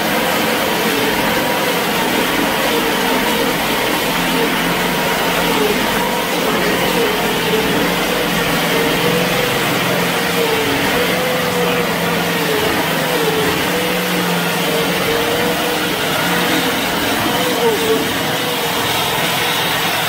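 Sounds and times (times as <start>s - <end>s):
tracked vehicle engine running: 0.0s - 20.0s.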